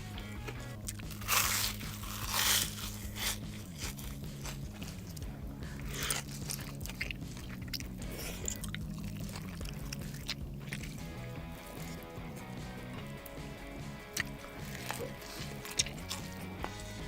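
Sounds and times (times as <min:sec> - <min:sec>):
chewing with crunches: 0:00.2 - 0:17.0
crunching bites into crisp food: 0:00.4 - 0:05.3, 0:05.9 - 0:12.4, 0:14.2 - 0:16.4.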